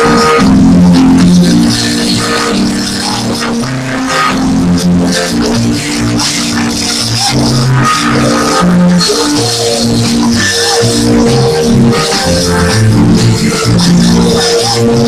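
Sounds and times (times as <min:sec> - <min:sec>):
busy high percussion: 0:00.0 - 0:15.0
music with low bass notes: 0:00.0 - 0:15.0.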